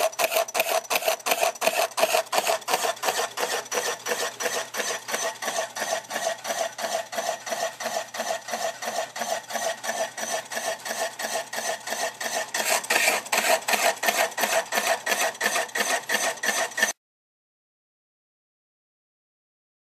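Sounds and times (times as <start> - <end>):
lathe rhythmic scraping: 0.0 - 17.0.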